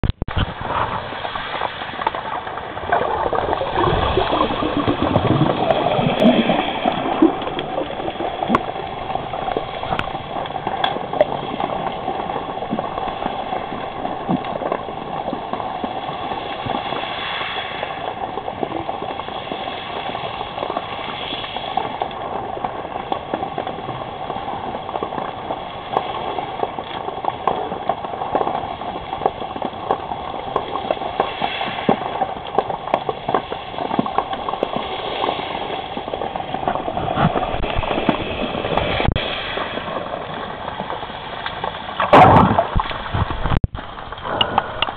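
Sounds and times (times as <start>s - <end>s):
small clicks and crackles: 0.0s - 44.9s
underwater bubbling and gurgling: 0.0s - 44.9s.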